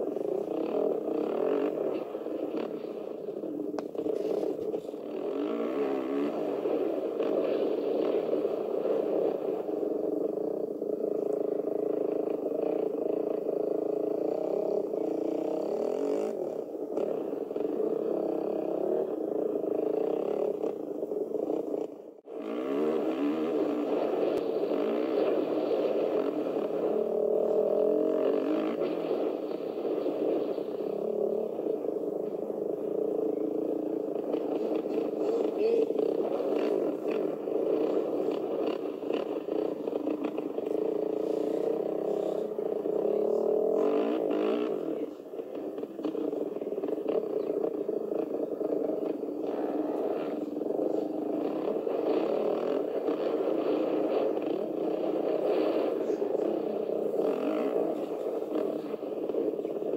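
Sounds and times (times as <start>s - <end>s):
motocross bike engine revving: 0.0s - 3.3s, 3.9s - 9.4s, 10.3s - 59.9s.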